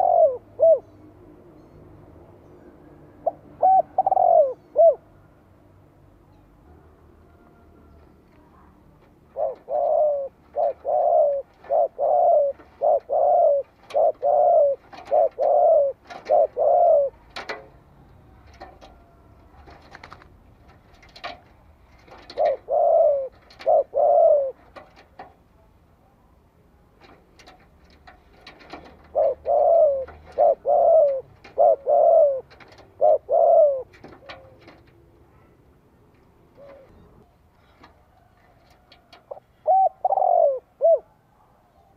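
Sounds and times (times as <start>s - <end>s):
dove cooing: 0.0s - 1.2s, 3.0s - 5.3s, 6.6s - 25.2s, 27.0s - 35.6s, 36.4s - 41.9s.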